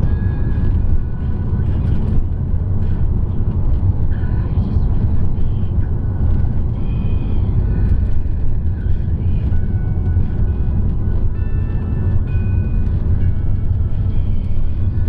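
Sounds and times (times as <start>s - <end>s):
car road and engine noise: 0.0s - 15.0s
faint music with held tones: 0.0s - 15.0s.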